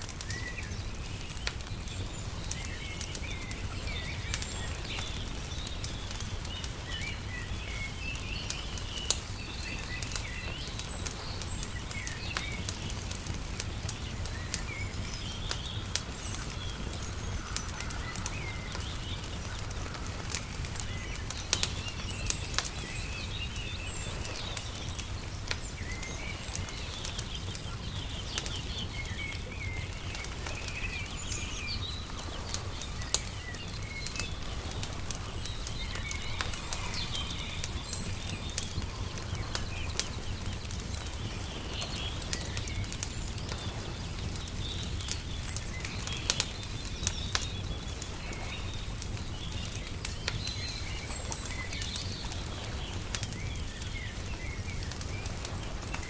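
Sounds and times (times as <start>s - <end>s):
small birds chirping: 0.0s - 56.0s
wood fire crackling: 0.0s - 56.0s.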